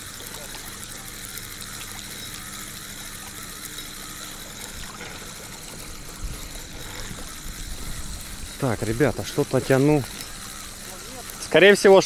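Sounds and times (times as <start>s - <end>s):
fishing reel winding: 0.0s - 12.0s.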